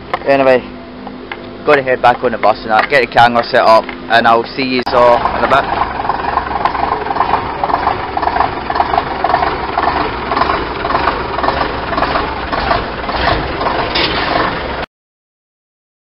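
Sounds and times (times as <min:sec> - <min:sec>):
bus diesel engine idling: 0:01.6 - 0:14.9.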